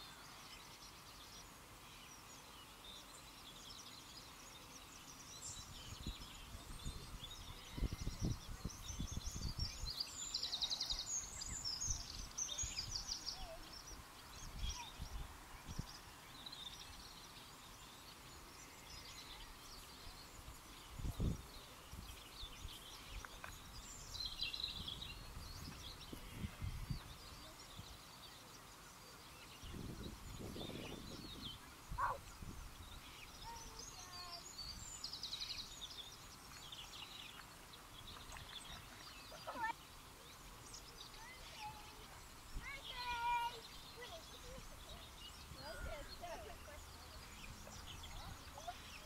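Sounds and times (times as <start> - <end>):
small birds chirping and trilling: 0.0 - 49.0.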